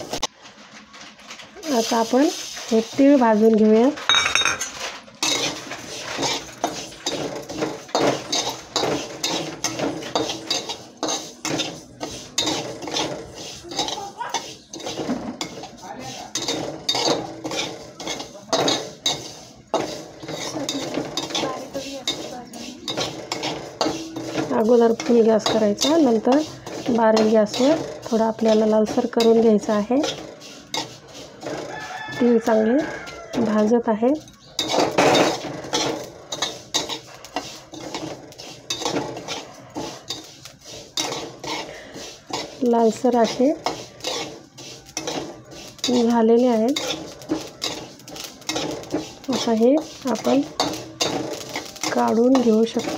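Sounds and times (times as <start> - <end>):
metal spatula scraping seeds in pan: 0.0 - 52.9.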